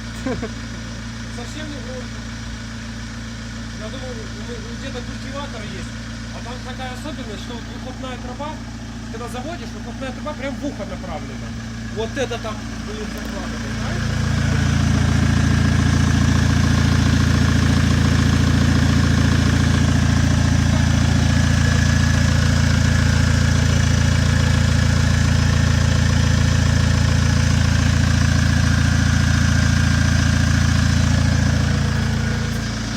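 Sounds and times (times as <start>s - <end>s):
loud engine idling: 0.0s - 32.9s.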